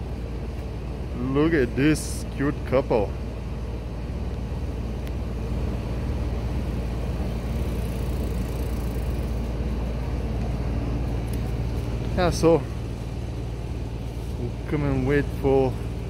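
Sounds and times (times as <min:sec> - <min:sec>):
car engine idling: 0:00.0 - 0:16.0
street traffic: 0:00.0 - 0:16.0.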